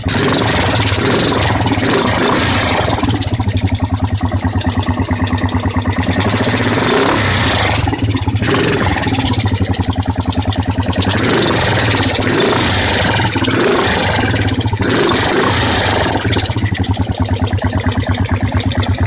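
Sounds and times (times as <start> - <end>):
engine revving with intake rush: 0.0 - 19.0
uneven pulsing engine idle: 0.0 - 19.0.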